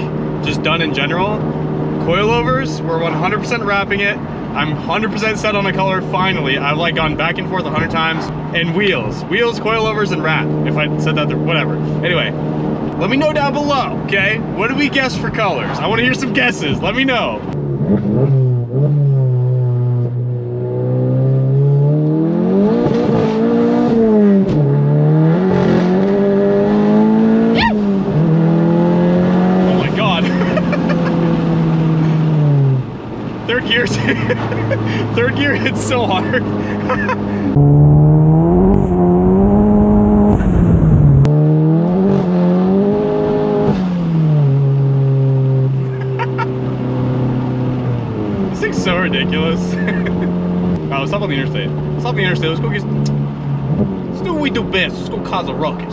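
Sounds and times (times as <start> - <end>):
car engine accelerating hard: 0.0 - 55.9.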